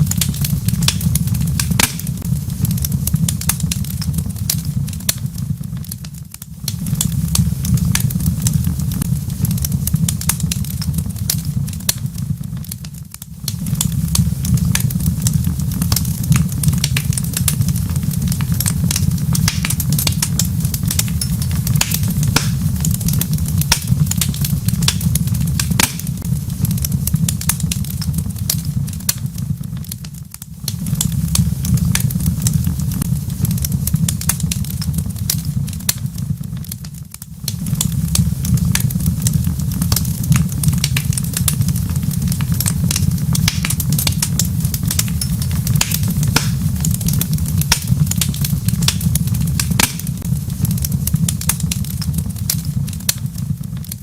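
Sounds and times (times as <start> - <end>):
low rumble: 0.0 - 36.7, 37.4 - 53.8
wood fire crackling: 0.0 - 54.0.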